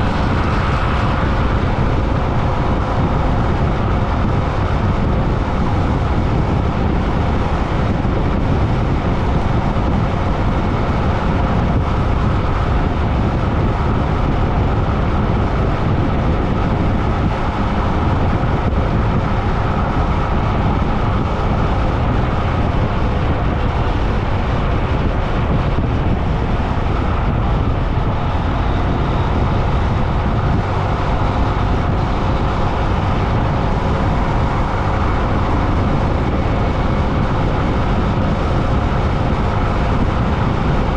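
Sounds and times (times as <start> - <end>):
wind and road noise rumble: 0.0 - 40.9.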